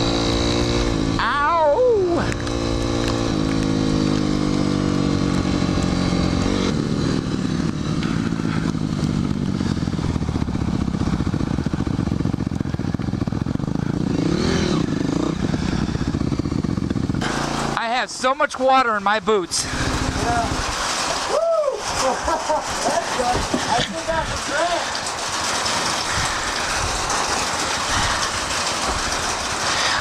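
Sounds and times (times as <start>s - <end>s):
dirt bike engine running: 0.0s - 21.3s, 22.2s - 30.0s.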